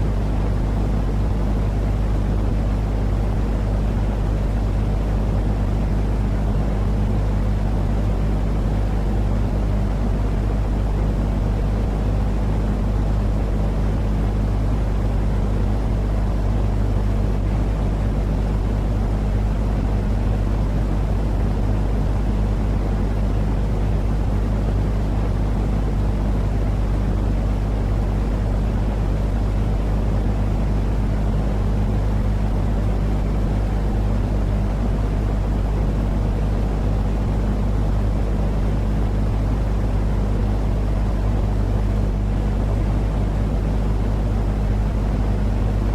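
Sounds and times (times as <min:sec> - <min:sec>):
constant low hum: 0:00.0 - 0:45.9.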